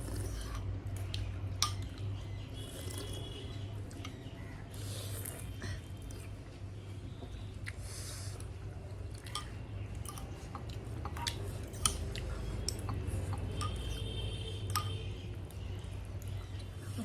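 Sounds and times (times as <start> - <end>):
chewing and eating: 0.0 - 17.0.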